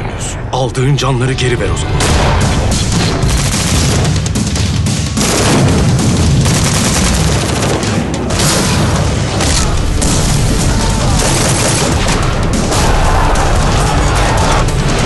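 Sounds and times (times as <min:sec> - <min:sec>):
dramatic music: 0:00.0 - 0:15.0
explosion booms: 0:02.0 - 0:07.2, 0:07.9 - 0:15.0
machine-gun fire: 0:02.0 - 0:15.0.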